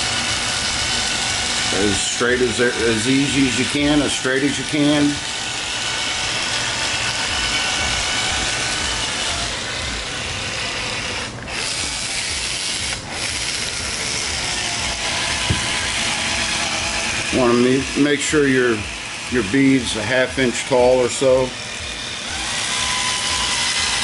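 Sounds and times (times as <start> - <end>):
electric caulking gun running: 0.0 - 24.0.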